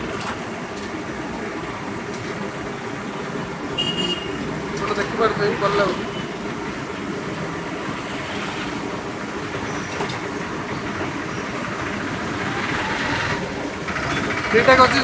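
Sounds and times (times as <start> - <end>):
engine rumble: 0.0 - 15.0
road traffic passing: 0.0 - 15.0.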